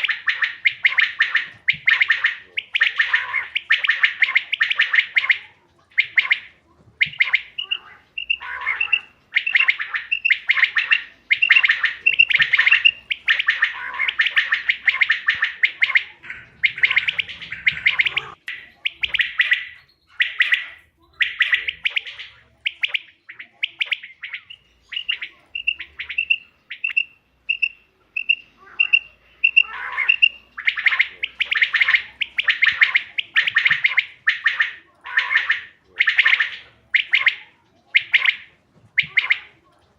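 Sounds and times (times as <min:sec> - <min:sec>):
quail buzzy chattering: 0:00.0 - 0:39.9
quail piping notes: 0:00.0 - 0:39.9.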